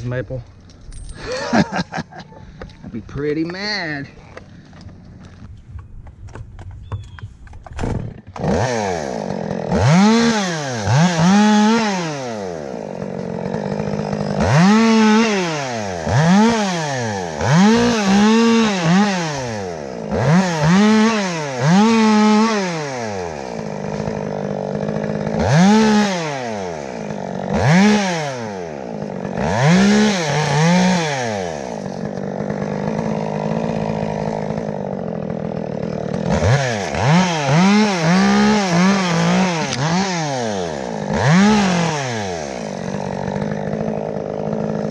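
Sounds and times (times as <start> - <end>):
chainsaw revving: 0.0 - 5.5, 8.0 - 44.9.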